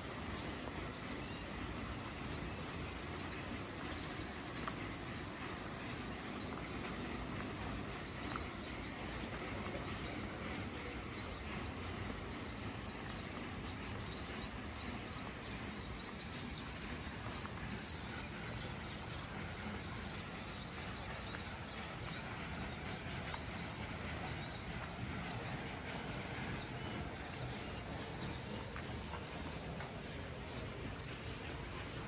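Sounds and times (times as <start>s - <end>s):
low outdoor background noise: 0.0s - 32.0s.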